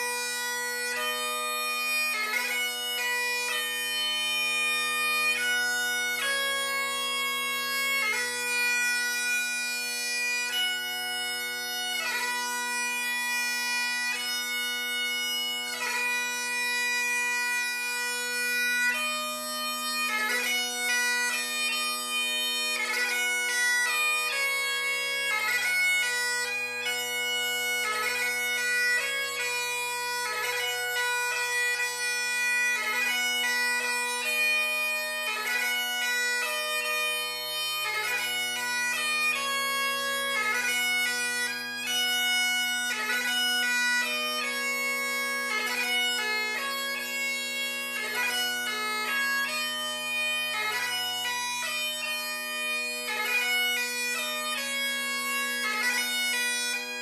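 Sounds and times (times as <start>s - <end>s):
bagpipe playing: 0.0s - 57.0s.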